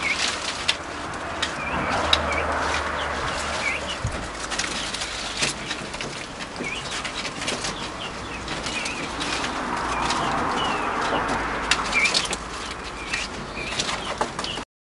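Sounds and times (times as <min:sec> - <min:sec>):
rustling leaves and twigs: 0:00.0 - 0:14.6
young birds peeping: 0:00.0 - 0:14.6.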